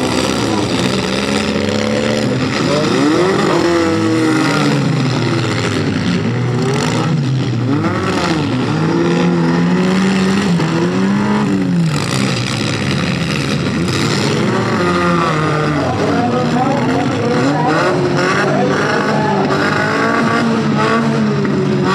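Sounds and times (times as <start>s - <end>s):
car engines revving: 0.0s - 21.9s.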